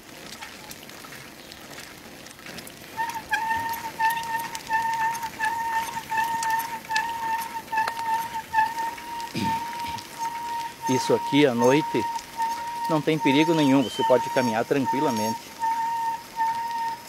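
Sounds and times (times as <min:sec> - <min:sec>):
tyres rolling on brick paving: 0:00.0 - 0:17.0
bicycle brakes squealing: 0:03.0 - 0:17.0.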